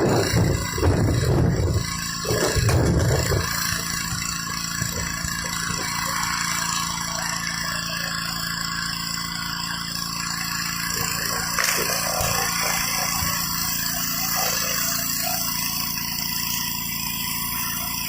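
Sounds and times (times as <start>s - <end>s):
pressure washer engine running: 0.0s - 18.0s
water spraying concrete: 0.0s - 18.0s.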